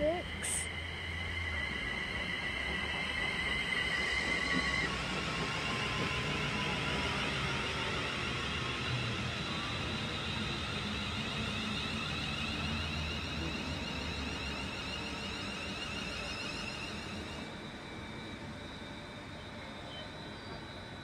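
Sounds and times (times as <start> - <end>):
electric train motor whine: 0.0 - 21.0
train wheels rumbling on rail: 0.0 - 21.0.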